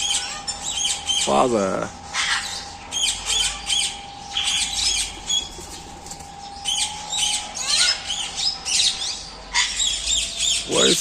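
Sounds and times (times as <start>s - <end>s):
parakeets squawking and chirping: 0.0s - 11.0s.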